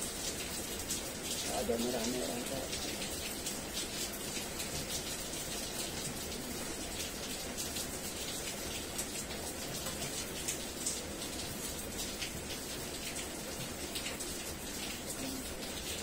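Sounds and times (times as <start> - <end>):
heavy rain falling: 0.0 - 16.0
raindrops splashing close by: 0.0 - 16.0.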